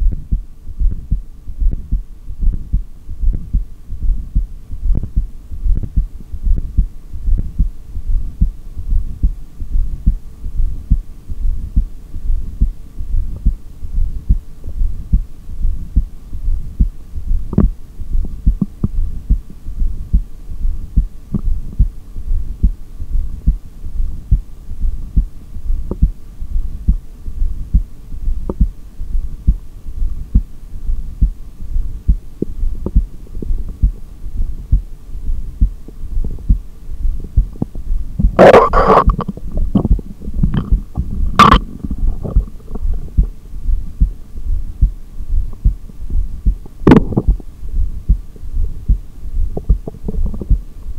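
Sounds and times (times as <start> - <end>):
heartbeat through stethoscope: 0.0 - 50.7
faint steady hum: 0.0 - 50.9.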